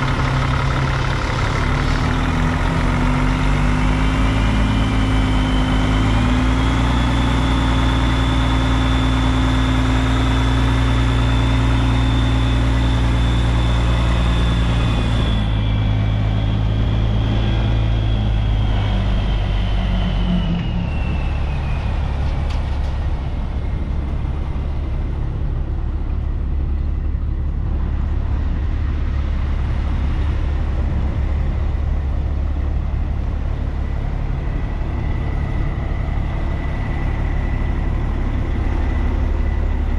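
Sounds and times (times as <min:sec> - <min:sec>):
diesel truck engine running: 0:00.0 - 0:39.9
high whine: 0:00.0 - 0:39.9.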